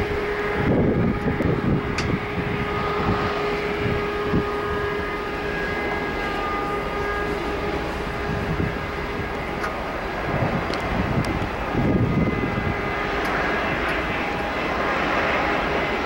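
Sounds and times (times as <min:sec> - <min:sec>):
jet engines whining: 0:00.0 - 0:16.0
rushing jet noise: 0:00.0 - 0:16.0.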